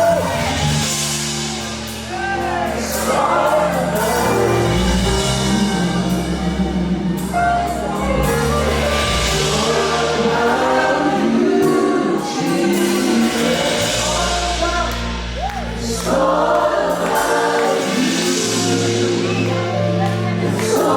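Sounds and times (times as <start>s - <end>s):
band playing sustained chords: 0.0s - 20.9s
group of voices singing: 0.0s - 20.9s.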